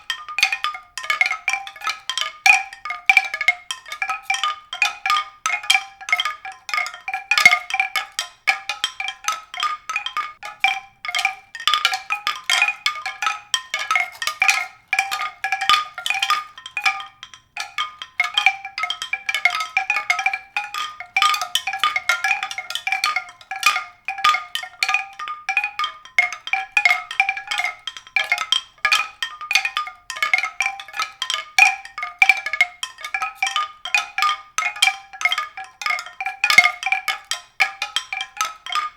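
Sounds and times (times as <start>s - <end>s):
mallet percussion music: 0.0s - 38.9s.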